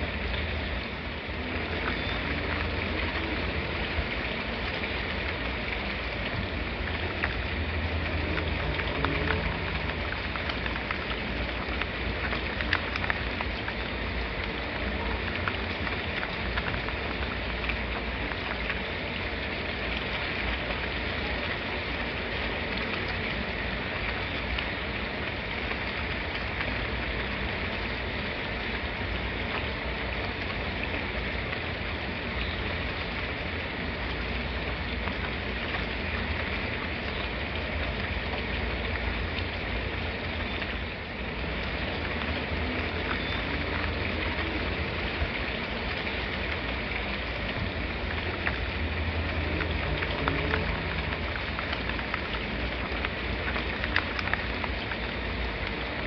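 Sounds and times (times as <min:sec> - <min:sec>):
rain drop ticks: 0:00.0 - 0:56.0
steady rain hissing: 0:00.0 - 0:56.0.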